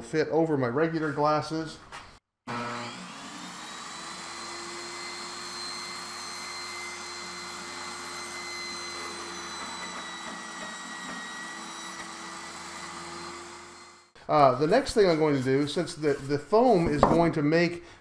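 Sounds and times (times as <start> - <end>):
table saw cutting foam: 2.5 - 17.3.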